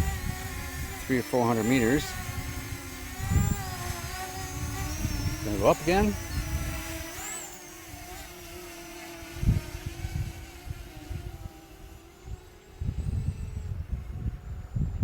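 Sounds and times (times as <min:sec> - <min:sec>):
wind buffeting microphone: 0:00.0 - 0:07.2, 0:07.8 - 0:15.0
drone propellers humming: 0:00.0 - 0:15.0.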